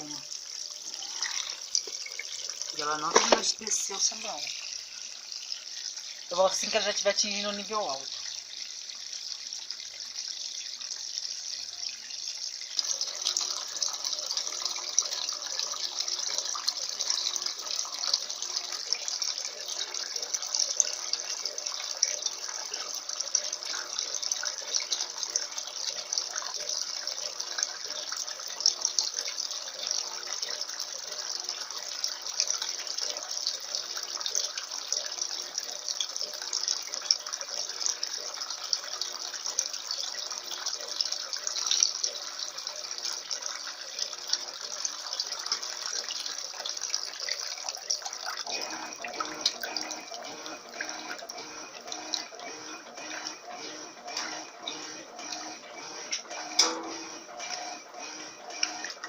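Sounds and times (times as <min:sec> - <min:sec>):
water pouring into washing machine: 0:00.0 - 0:59.0.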